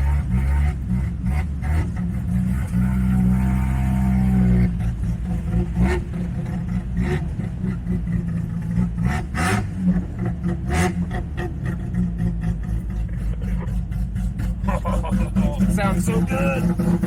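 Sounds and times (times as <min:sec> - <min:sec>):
rotary engine idling choppily: 0:00.0 - 0:17.0.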